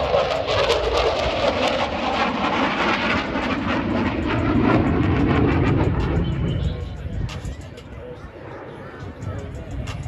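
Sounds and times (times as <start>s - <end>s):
fighter jet roar: 0.0s - 10.0s.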